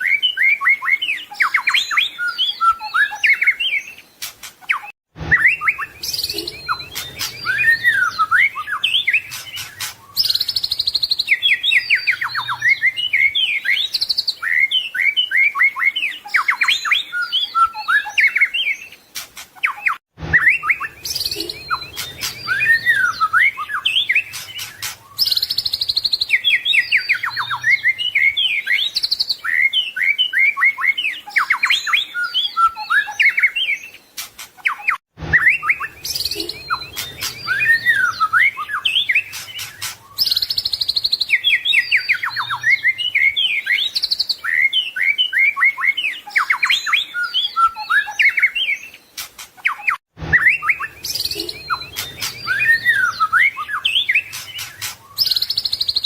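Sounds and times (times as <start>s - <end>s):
bird singing whistles and chatter: 0.0s - 56.0s.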